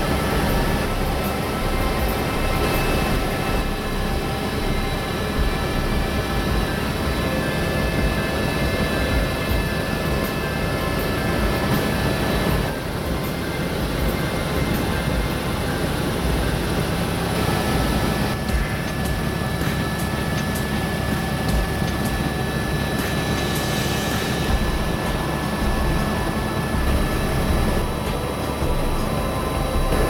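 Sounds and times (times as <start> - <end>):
helicopter rotor and engine drone: 0.0 - 30.0
thin high whine: 0.0 - 30.0.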